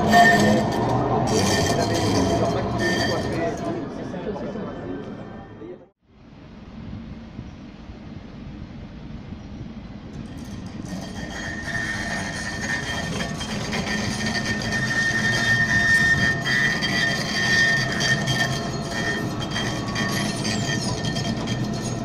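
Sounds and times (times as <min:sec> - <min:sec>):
tram rumbling on rails: 0:00.0 - 0:05.5, 0:08.3 - 0:22.0
high whine: 0:00.0 - 0:22.0.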